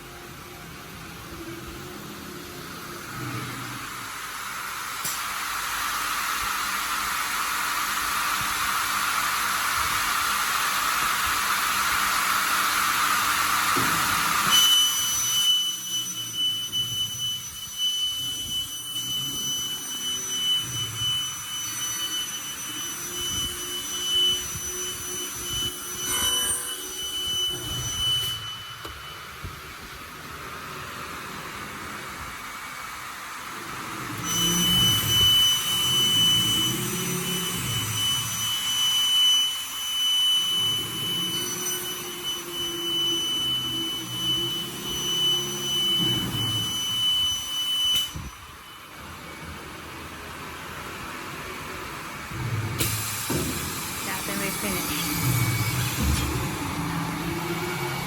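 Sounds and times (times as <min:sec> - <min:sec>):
machine high whine: 0:00.0 - 0:58.0.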